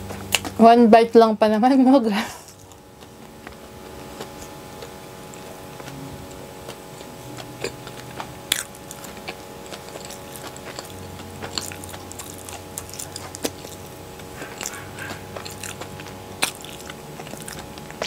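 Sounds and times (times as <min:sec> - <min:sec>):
faint steady hum: 0:00.0 - 0:18.0
person chewing with mouth clicks: 0:02.5 - 0:18.0.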